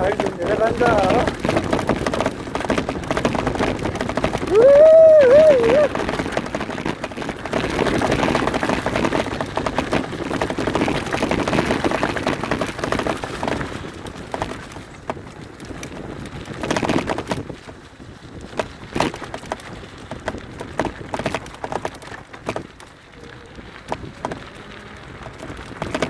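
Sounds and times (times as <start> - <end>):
bike rattling: 0.0 - 26.0
tyres crunching on gravel: 0.0 - 26.0.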